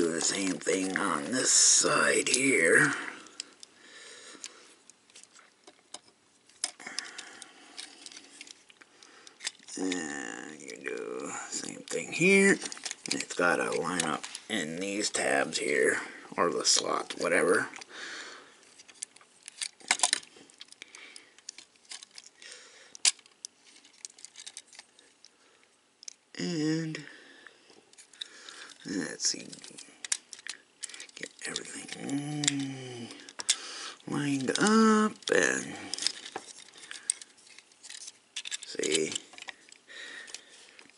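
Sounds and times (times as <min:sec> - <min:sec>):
plastic action figure parts clicking: 0:00.0 - 0:03.7, 0:04.4 - 0:15.7, 0:18.8 - 0:25.3, 0:26.0 - 0:26.2, 0:27.9 - 0:40.9
light handling noise: 0:00.0 - 0:03.8, 0:04.4 - 0:17.9, 0:18.6 - 0:25.3, 0:27.7 - 0:40.9.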